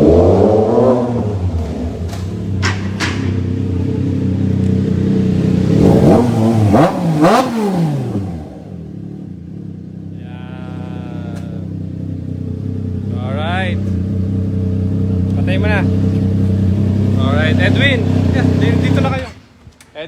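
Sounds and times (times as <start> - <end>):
motorcycle engine revving and idling: 0.0 - 19.9.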